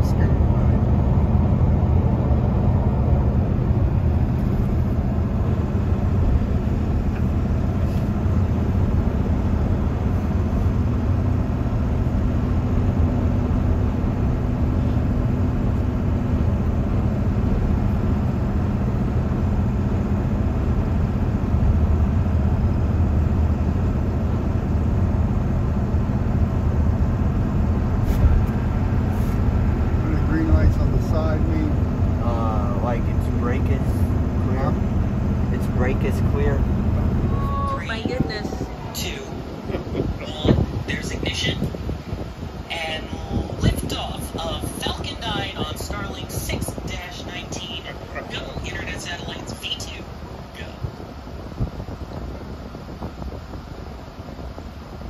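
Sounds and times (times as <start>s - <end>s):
car road and engine drone: 0.0s - 55.0s
faint hum: 0.0s - 55.0s.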